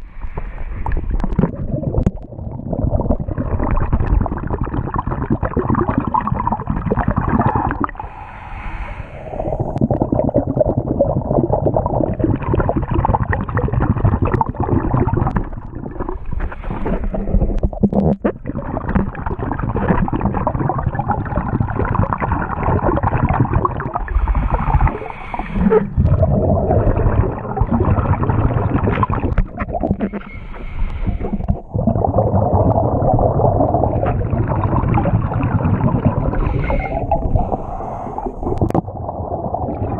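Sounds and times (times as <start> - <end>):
muffled underwater gurgling: 0.0 - 39.9.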